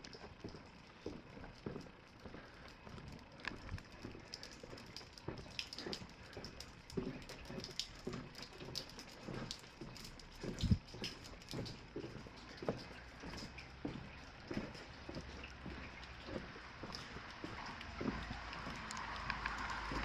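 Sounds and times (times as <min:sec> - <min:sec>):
footsteps on paved street: 0:00.0 - 0:20.0.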